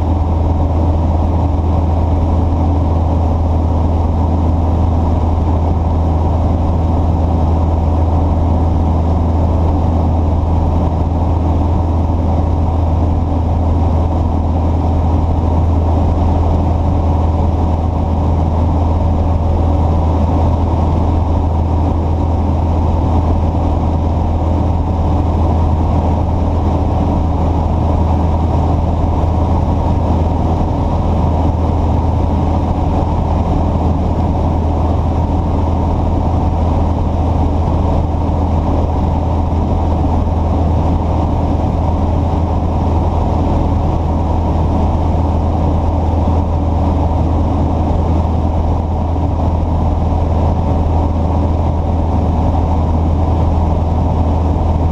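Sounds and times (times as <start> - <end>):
low engine drone: 0.0 - 54.9.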